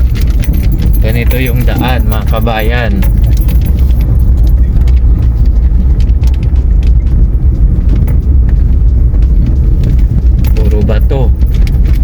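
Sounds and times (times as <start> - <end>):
stones knocking under wheels: 0.0 - 12.0
tyres rumbling on dirt road: 0.0 - 12.0.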